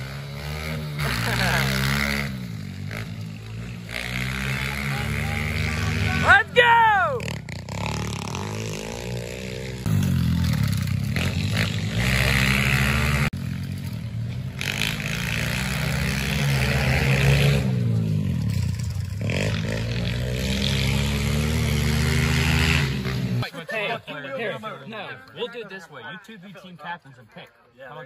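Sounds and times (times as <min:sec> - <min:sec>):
dirt bike engine revving: 0:00.0 - 0:23.5.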